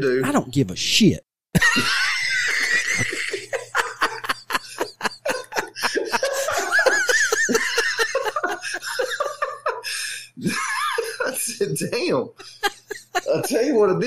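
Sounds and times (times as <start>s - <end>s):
men laughing heartily: 1.6s - 13.8s.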